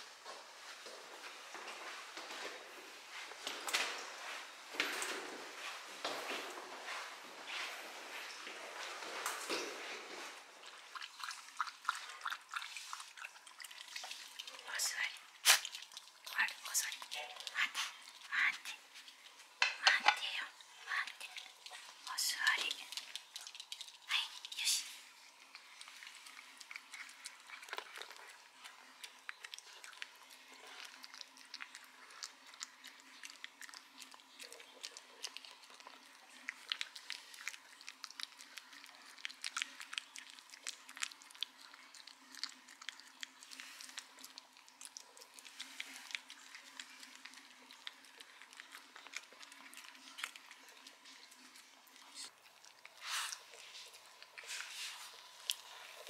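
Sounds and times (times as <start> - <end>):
dog eating wet food: 0.0 - 56.0.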